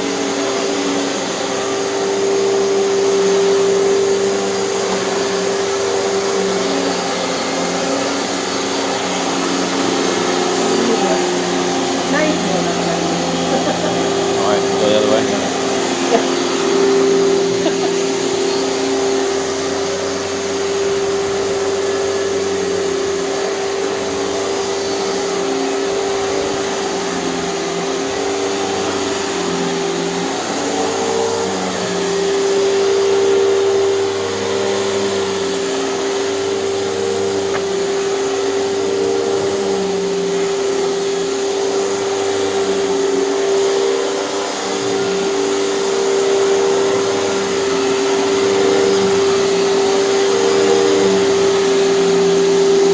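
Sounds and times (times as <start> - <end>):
vacuum cleaner running over carpet: 0.0 - 52.9.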